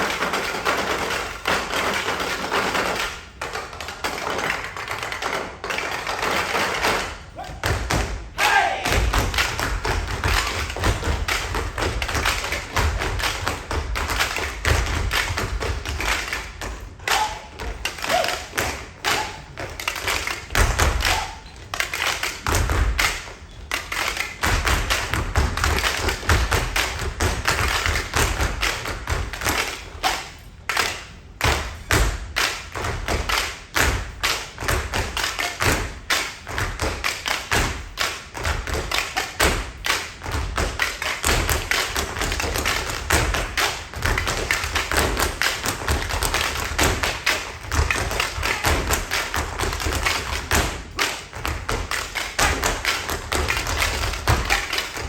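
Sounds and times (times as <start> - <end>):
tap shoes and stomping feet: 8.9 - 30.2, 31.4 - 55.0.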